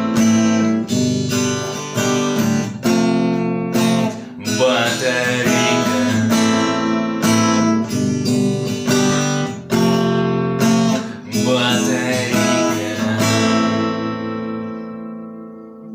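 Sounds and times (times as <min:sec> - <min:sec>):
acoustic guitar strumming: 0:00.0 - 0:15.9.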